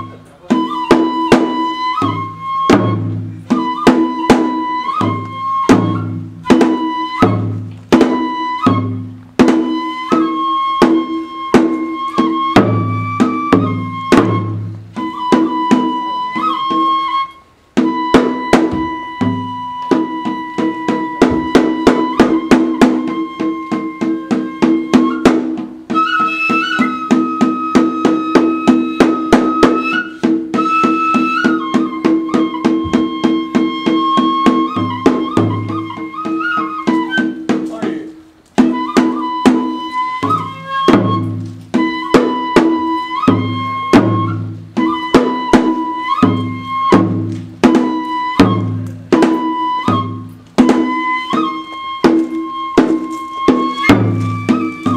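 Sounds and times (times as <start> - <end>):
bamboo flute long wavering notes: 0.0 - 37.7, 38.6 - 54.9
taiko drums steady beat: 0.0 - 54.9.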